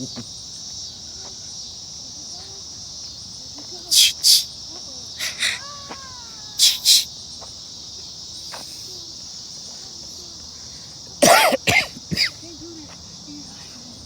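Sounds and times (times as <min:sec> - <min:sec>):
buzzing insect chorus: 0:00.0 - 0:14.0.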